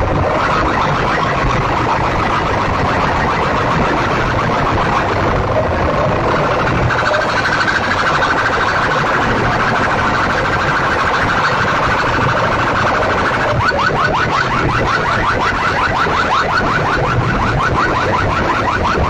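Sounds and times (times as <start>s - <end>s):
electronic siren effect: 0.0s - 19.0s.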